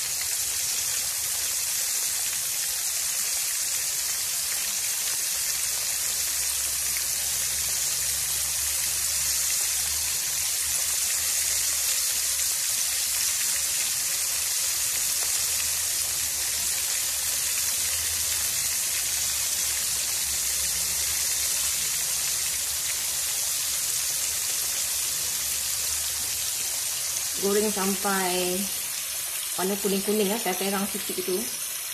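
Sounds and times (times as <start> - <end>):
chicken deep-frying in oil: 0.0 - 31.9.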